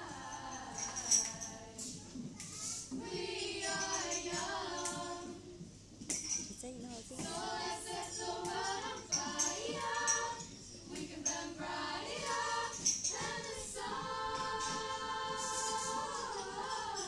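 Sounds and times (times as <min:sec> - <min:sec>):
girls singing in harmony: 0:00.0 - 0:17.0.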